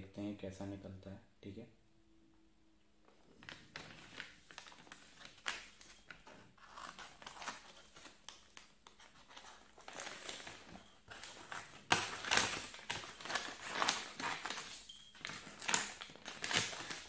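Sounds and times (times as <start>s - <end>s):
packaging rustling and crinkling: 3.1s - 17.0s.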